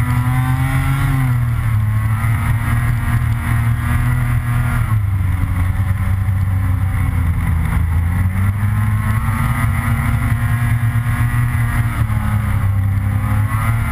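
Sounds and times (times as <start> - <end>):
snowmobile engine running: 0.0 - 13.9.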